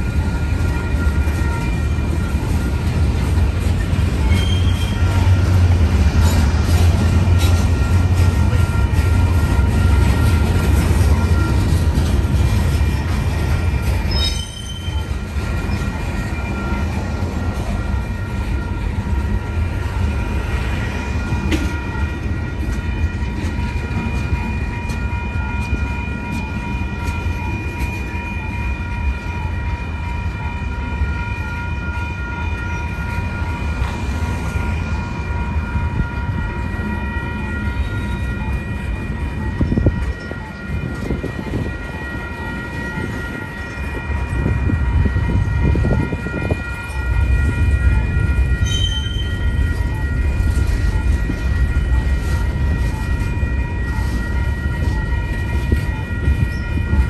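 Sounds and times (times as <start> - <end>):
crossing warning bell ringing: 0.0 - 57.0
freight train wheels rumbling: 0.0 - 57.0.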